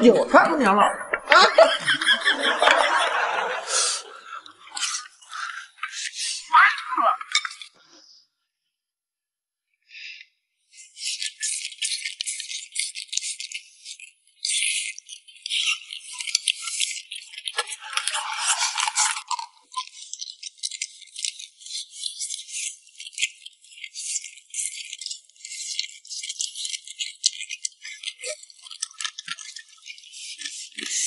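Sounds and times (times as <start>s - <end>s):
crunching fried food: 2.0s - 6.5s, 7.2s - 7.9s, 10.7s - 31.0s.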